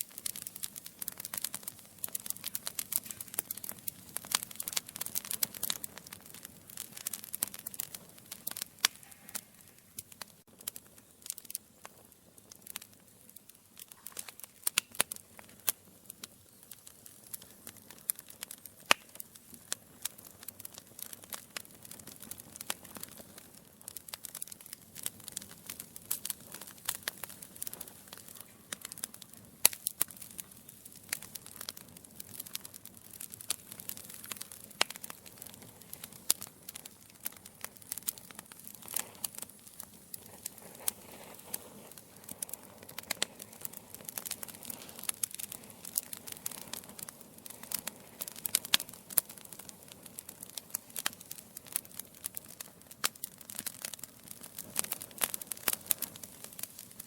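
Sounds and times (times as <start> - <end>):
logs crackling and popping: 0.0 - 57.0
soft fire hiss: 0.0 - 57.0.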